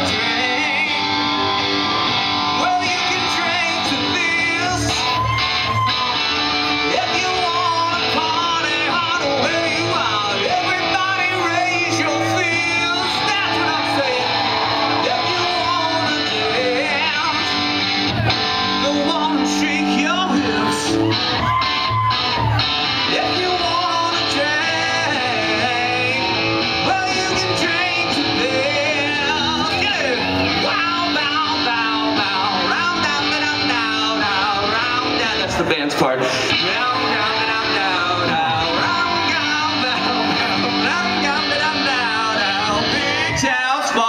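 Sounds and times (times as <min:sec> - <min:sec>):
man singing: 0:00.0 - 0:05.8, 0:06.7 - 0:21.6, 0:23.0 - 0:44.0
live rock band playing: 0:00.0 - 0:44.0
strummed guitar: 0:00.0 - 0:44.0.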